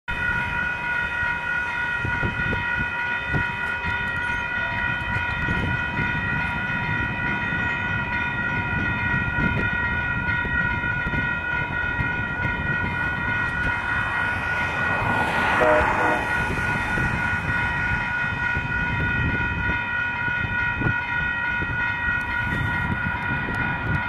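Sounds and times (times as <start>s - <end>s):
crossing warning bell ringing: 0.1s - 24.0s
train rumble and clatter: 0.1s - 24.0s.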